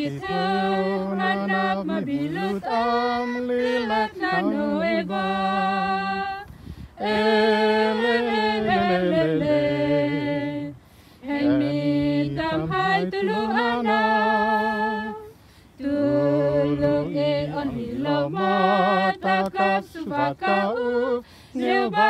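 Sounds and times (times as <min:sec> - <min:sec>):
group singing a hymn a cappella: 0:00.0 - 0:22.0.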